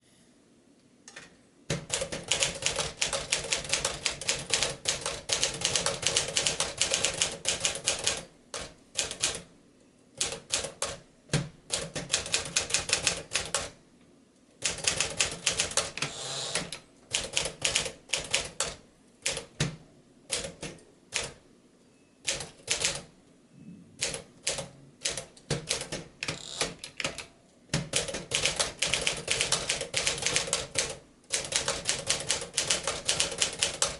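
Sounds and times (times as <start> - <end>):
manual typewriter typing: 1.7 - 9.5, 10.2 - 11.0, 11.7 - 13.8, 14.6 - 19.7, 20.3 - 21.4, 22.2 - 23.1, 24.0 - 33.9.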